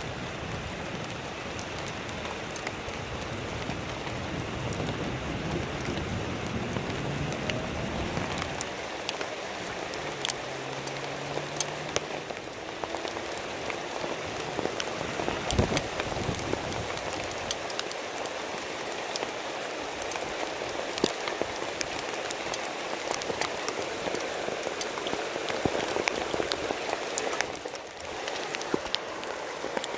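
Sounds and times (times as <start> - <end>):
heavy rain: 0.0 - 29.9
raindrops tapping: 0.0 - 29.9.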